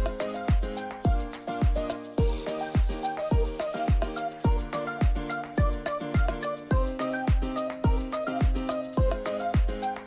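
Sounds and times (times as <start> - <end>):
deep kick drum: 0.0 - 9.8.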